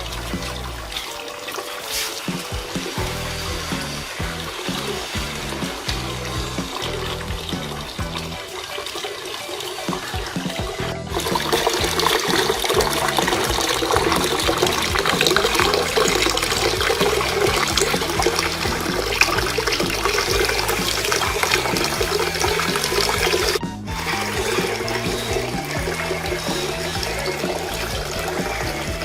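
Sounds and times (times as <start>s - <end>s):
fountain water splashing and trickling: 0.0s - 29.0s.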